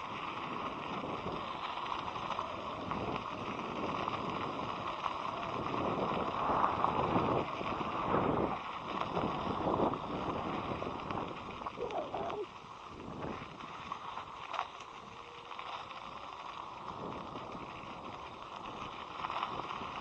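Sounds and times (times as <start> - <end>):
wind over microphone: 0.0 - 14.4, 16.8 - 20.0
tyre and road noise: 0.0 - 20.0.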